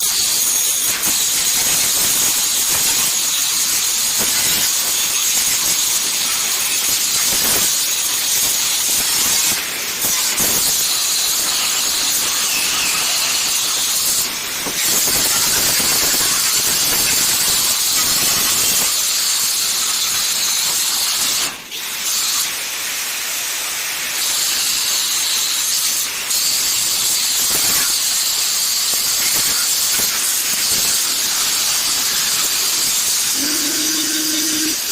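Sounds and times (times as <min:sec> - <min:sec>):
angle grinder grinding metal: 0:00.1 - 0:21.4, 0:27.2 - 0:34.9.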